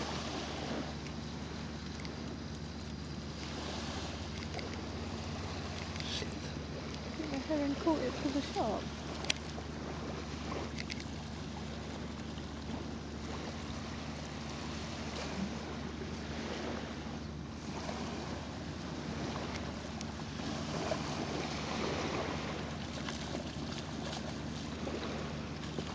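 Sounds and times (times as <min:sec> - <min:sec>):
waves lapping at shore: 0:00.0 - 0:25.9.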